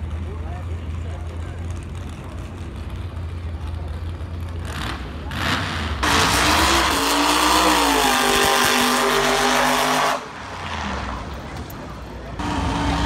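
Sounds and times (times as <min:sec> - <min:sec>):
engines idling: 0:00.0 - 0:13.0
race car engine at full throttle: 0:00.0 - 0:13.0.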